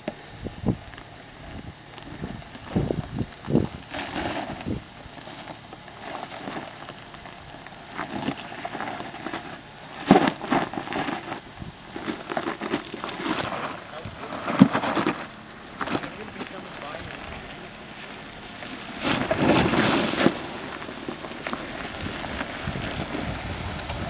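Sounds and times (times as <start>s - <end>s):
engine running low: 0.0s - 24.0s
tyres crunching and scraping over rock: 0.2s - 24.0s.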